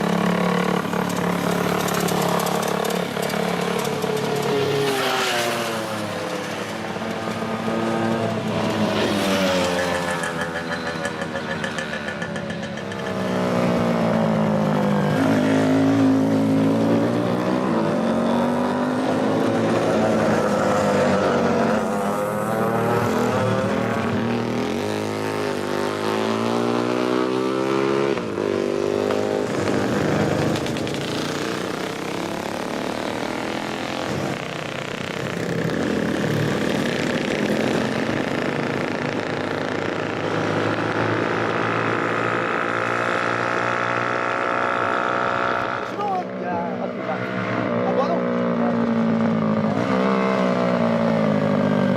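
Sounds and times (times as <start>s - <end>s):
motorcycle engines revving past: 0.0s - 51.9s.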